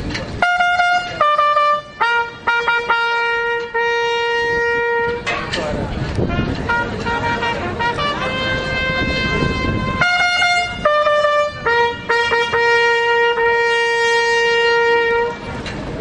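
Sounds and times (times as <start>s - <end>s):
brass horn call: 0.4s - 5.3s, 6.2s - 15.6s.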